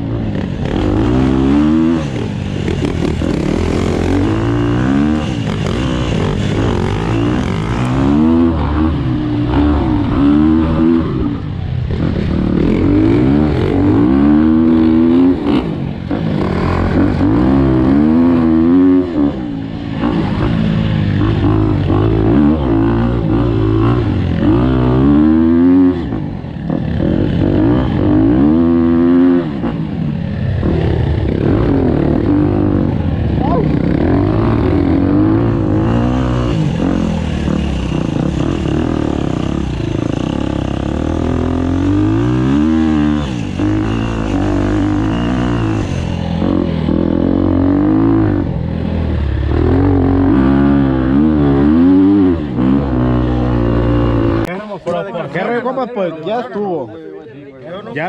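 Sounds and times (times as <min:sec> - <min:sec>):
dirt bike engine revving: 0:00.0 - 0:54.5.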